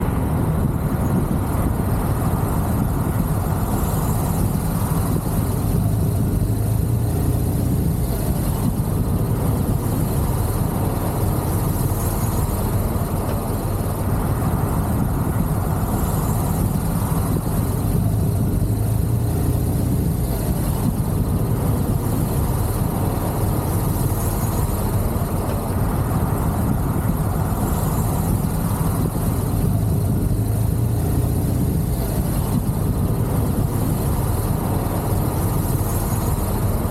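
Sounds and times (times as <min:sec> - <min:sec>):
motorcycle engine running: 0:00.0 - 0:36.9
road and wind noise: 0:00.0 - 0:36.9.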